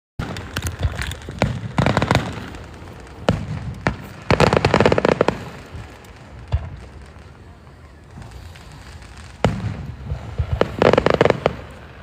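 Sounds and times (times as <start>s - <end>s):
fireworks bangs: 0.2s - 12.0s
fireworks crackling: 0.2s - 12.0s.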